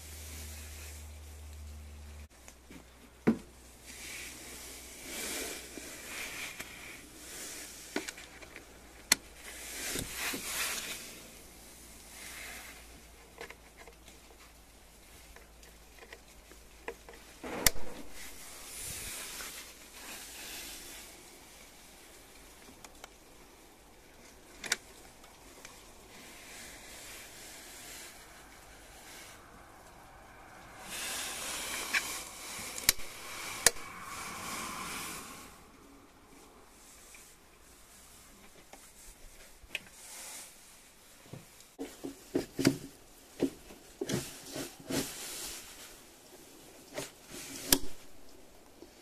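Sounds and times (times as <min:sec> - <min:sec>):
soft sliding and rubbing: 0:00.0 - 0:01.4, 0:03.6 - 0:22.4, 0:24.2 - 0:42.6, 0:43.2 - 0:49.0
steady hiss: 0:00.0 - 0:49.0.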